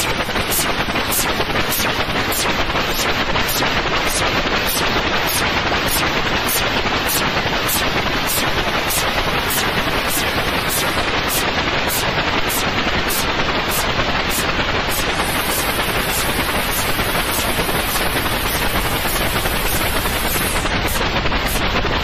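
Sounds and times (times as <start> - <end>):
white noise hiss: 0.0 - 22.0.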